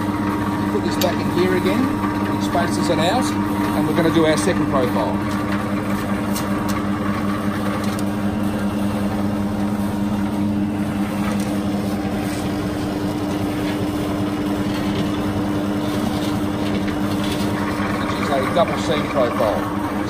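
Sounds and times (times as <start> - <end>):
electric machine humming: 0.0 - 20.0.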